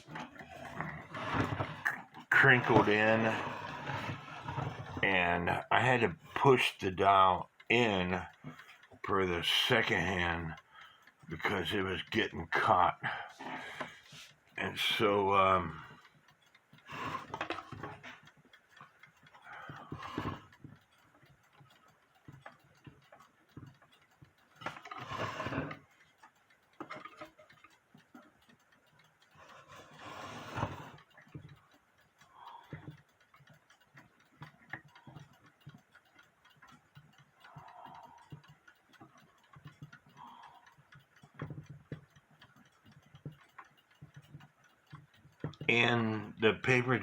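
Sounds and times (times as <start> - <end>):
alarm clock ticking: 0.0 - 47.0.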